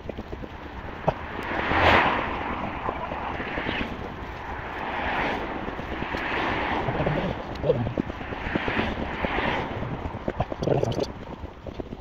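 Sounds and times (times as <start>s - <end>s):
steady road noise: 0.0s - 12.0s
vehicle rushing past: 0.9s - 11.4s.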